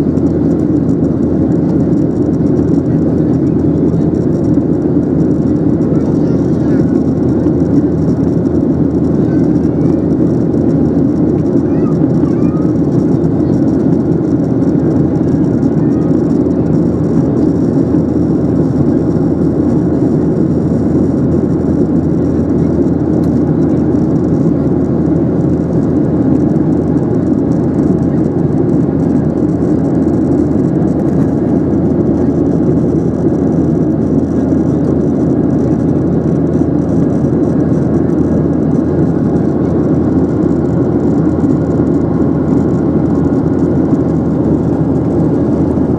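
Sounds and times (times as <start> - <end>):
jet engine drone: 0.0 - 45.9.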